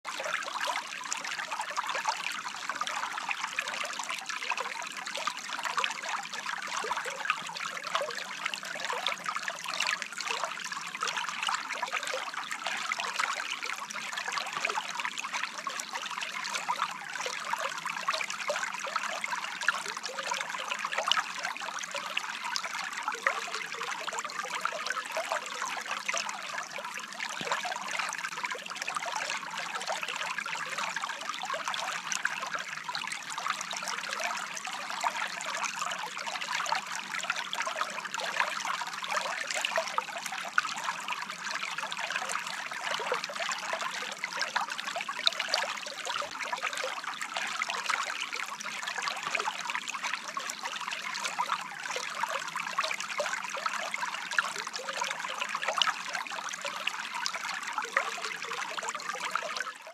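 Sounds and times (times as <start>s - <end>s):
stream trickling over stones: 0.1s - 59.9s.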